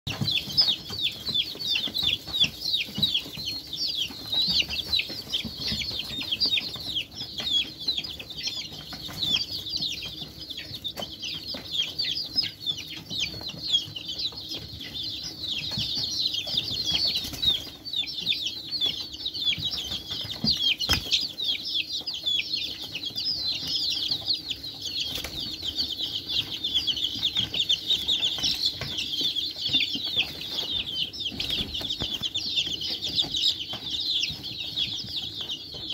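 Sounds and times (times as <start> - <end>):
chicks peeping: 0.1 - 35.9.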